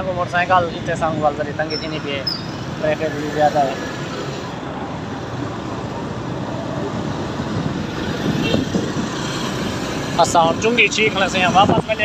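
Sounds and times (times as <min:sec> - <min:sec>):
road and wind noise: 0:00.0 - 0:12.0
surrounding traffic: 0:00.0 - 0:12.0.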